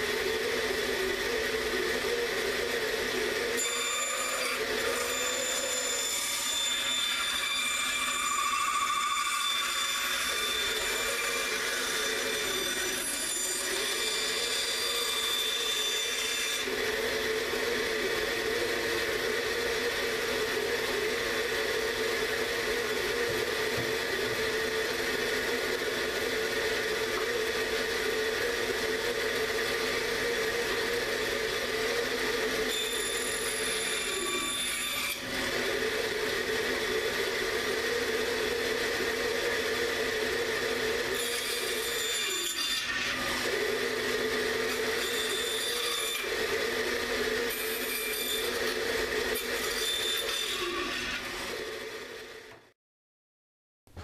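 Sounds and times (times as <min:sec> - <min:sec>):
bandsaw cutting wooden board: 0:00.0 - 0:52.6.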